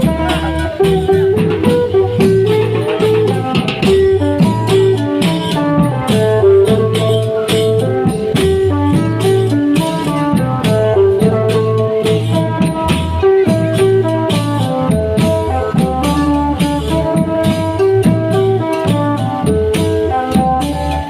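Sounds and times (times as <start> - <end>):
drum beats: 0.0 - 21.0
rattling hand percussion: 0.0 - 21.0.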